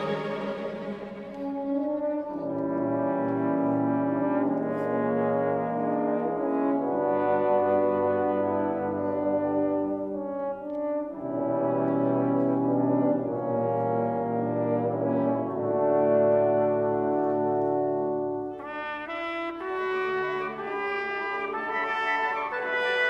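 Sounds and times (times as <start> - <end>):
horns and low brass: 0.0 - 23.0
orchestra playing slow chords: 0.0 - 23.0.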